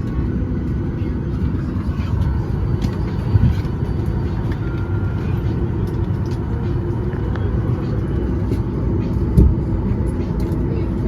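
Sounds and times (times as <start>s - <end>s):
aircraft cabin air rumble: 0.0s - 11.0s.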